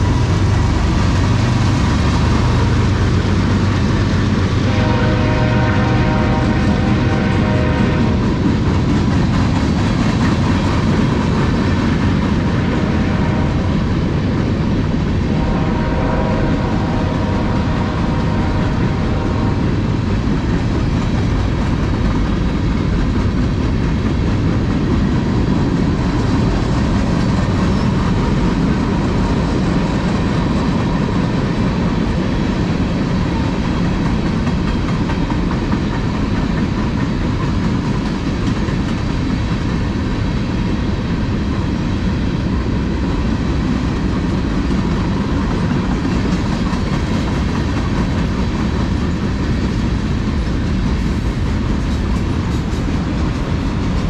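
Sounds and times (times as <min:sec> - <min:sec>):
freight train cars rolling: 0:00.0 - 0:54.0
wheel clatter on rails: 0:06.8 - 0:15.0, 0:17.4 - 0:54.0.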